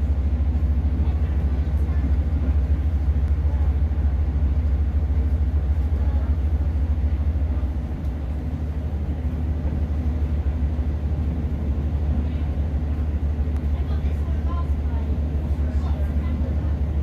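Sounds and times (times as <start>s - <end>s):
train diesel engine rumbling: 0.0s - 17.0s
train wheels on track: 0.0s - 17.0s.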